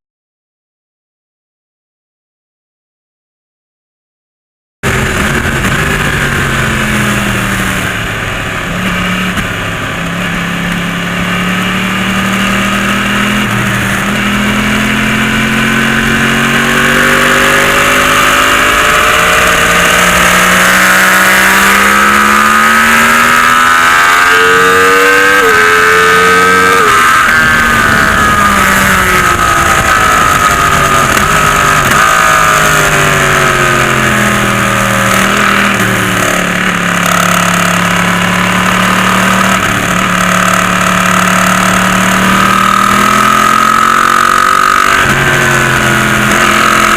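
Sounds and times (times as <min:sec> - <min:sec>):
motorcycle engine revving: 0:04.8 - 0:46.9
rush of noise: 0:04.8 - 0:46.9.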